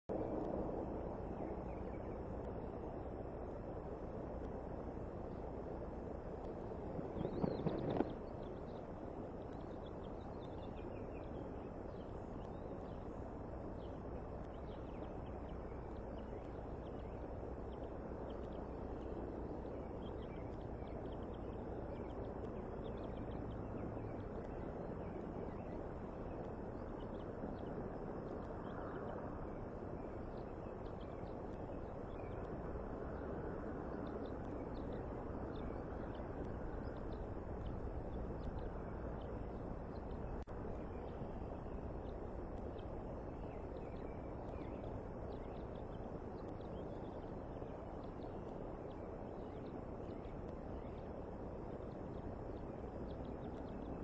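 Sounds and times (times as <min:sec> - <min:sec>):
outdoor background noise: 0:00.1 - 0:54.0.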